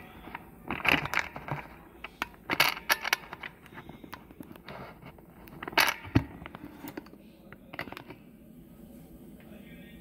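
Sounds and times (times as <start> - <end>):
small parts and tools clicking: 0.0 - 8.2.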